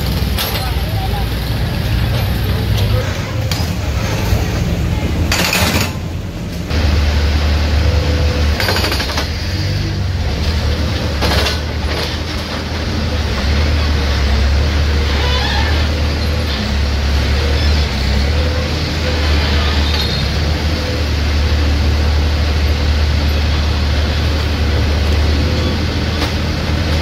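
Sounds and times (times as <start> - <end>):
diesel engine rumbling: 0.0 - 27.0.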